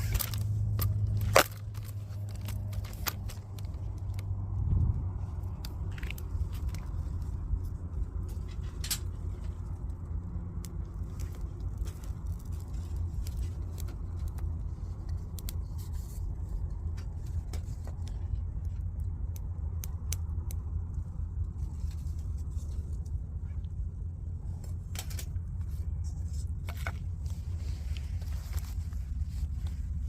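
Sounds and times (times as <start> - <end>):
fire popping: 0.0 - 30.0
wood fire crackling: 0.0 - 30.0.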